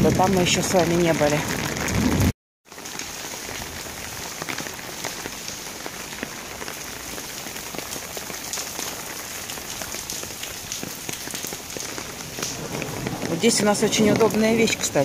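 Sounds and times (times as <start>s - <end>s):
raindrop splats: 0.0s - 15.0s.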